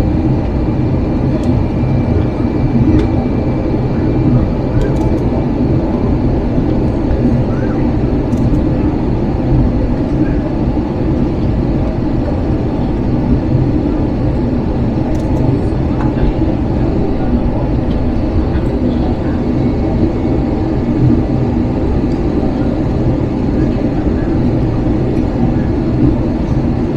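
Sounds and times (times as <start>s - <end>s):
airplane cabin engine rumble: 0.0s - 26.9s.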